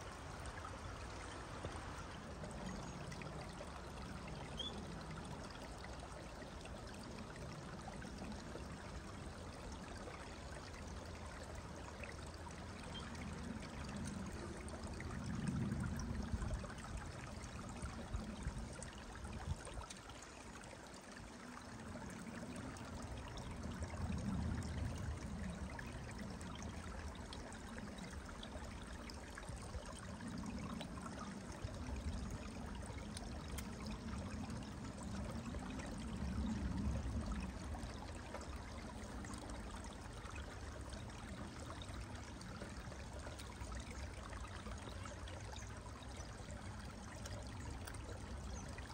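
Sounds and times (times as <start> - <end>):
stream flowing water: 0.0 - 48.9.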